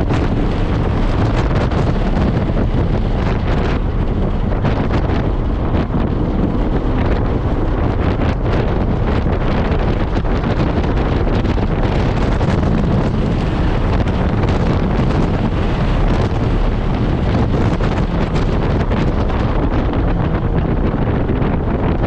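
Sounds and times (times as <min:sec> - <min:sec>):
wind and road noise in car: 0:00.0 - 0:22.0
wind buffeting microphone: 0:00.0 - 0:22.0.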